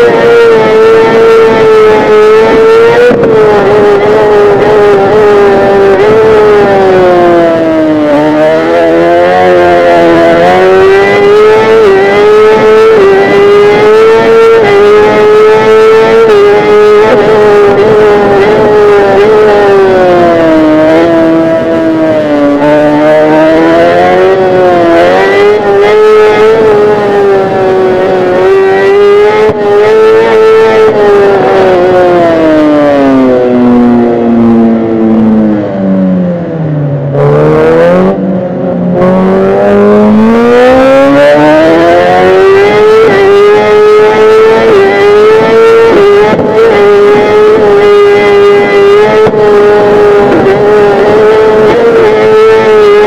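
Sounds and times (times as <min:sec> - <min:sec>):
motorcycle engine at high revs: 0:00.0 - 0:53.0.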